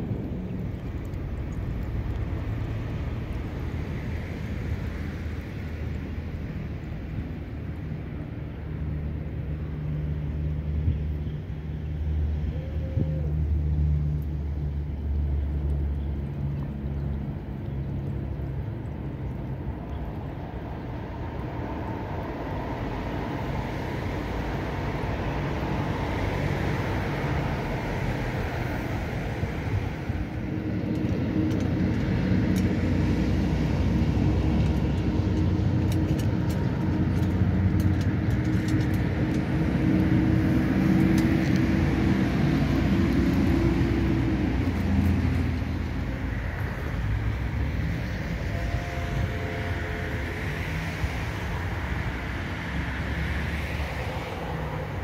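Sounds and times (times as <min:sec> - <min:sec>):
low hum of vehicle engines: 0:00.0 - 0:55.0.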